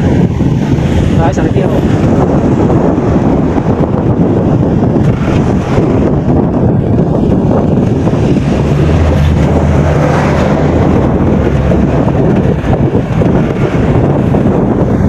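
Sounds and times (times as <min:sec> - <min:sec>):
vehicle engine droning: 0:00.0 - 0:15.0
wind rushing over microphone: 0:00.0 - 0:15.0.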